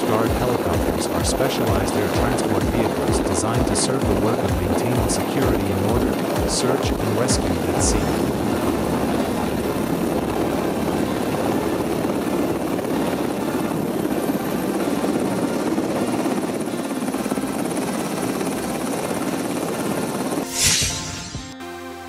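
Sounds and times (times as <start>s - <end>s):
helicopter rotor and engine: 0.0s - 21.6s.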